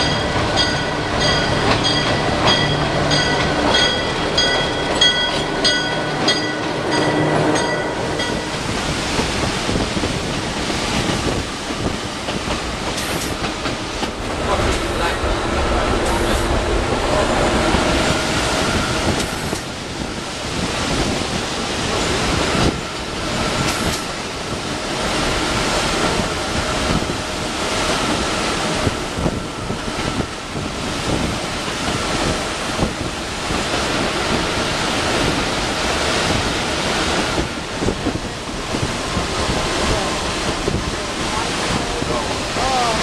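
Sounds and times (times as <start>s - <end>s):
passenger train rushing: 0.0s - 43.0s.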